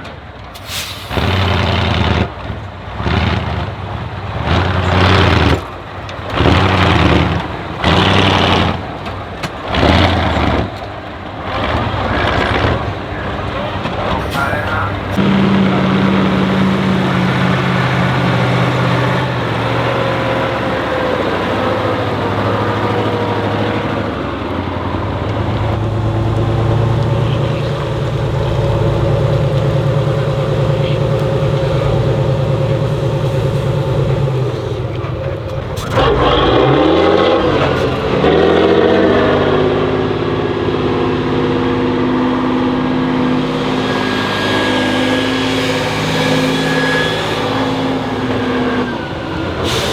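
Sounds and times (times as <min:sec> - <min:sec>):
diesel truck engine under load: 0:00.0 - 0:49.9
engine revving up: 0:00.6 - 0:49.9.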